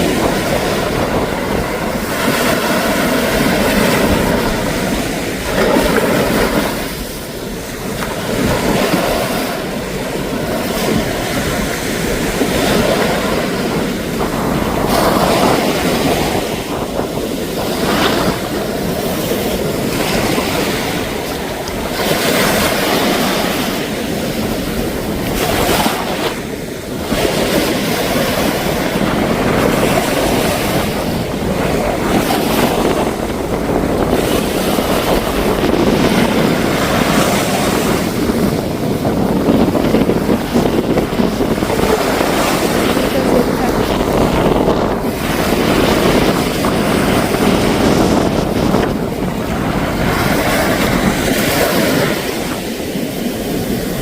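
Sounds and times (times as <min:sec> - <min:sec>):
sea waves breaking on beach: 0:00.0 - 0:54.0
wind buffeting microphone: 0:00.0 - 0:54.0.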